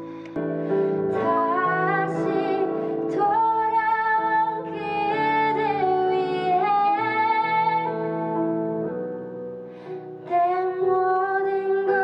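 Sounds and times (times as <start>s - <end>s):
woman singing a ballad: 0.0s - 8.6s, 10.1s - 12.0s
piano chords: 0.0s - 12.0s.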